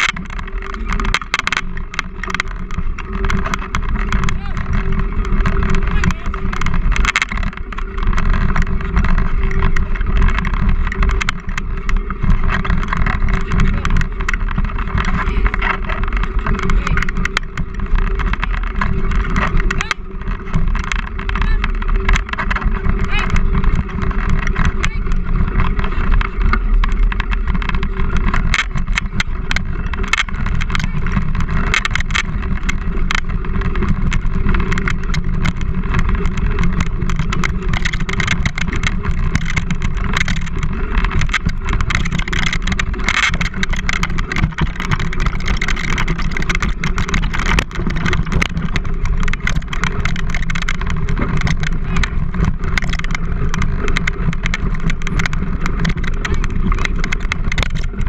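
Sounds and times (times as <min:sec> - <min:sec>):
small knocks and clicks: 0:00.0 - 0:58.0
wheeled rig rumbling over dirt: 0:00.0 - 0:58.0.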